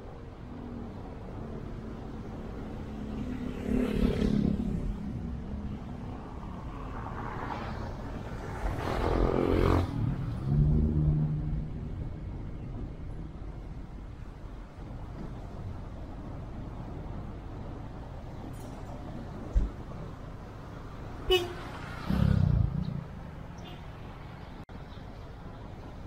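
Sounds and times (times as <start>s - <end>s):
low traffic hum: 0.0s - 26.0s
vehicles passing close by: 0.0s - 26.0s.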